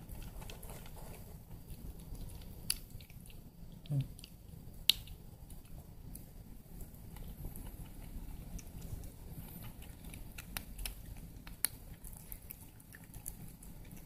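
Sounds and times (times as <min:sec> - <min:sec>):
cat chewing and licking: 0:00.0 - 0:14.0.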